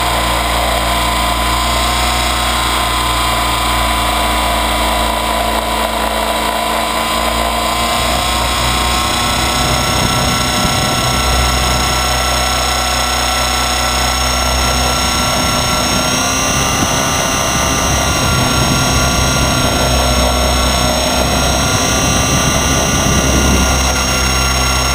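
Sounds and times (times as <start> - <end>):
electric motor whine: 0.0 - 24.9
helicopter rotor beat: 0.0 - 24.9.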